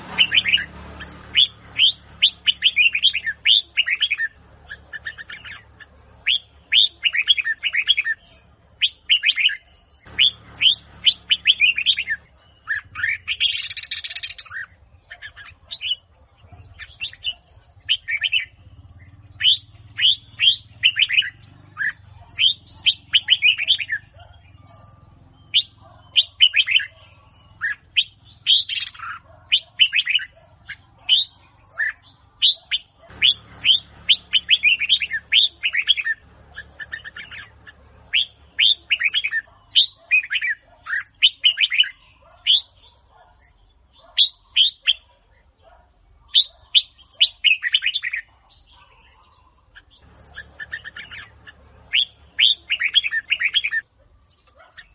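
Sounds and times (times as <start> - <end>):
bulbul singing whistled notes: 0.0 - 45.1, 46.3 - 54.9.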